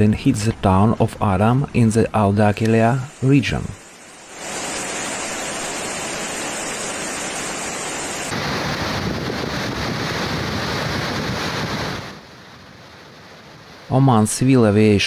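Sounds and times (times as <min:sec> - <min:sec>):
wind rumbling on microphone: 0:02.8 - 0:15.0.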